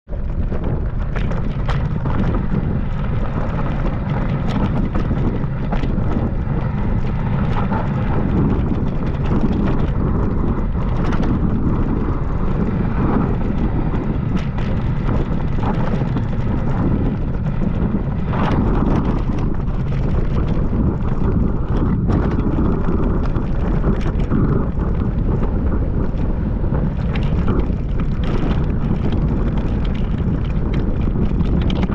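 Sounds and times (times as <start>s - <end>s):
wind buffeting microphone: 0.0s - 31.9s
bike rattling clicks: 0.1s - 31.9s.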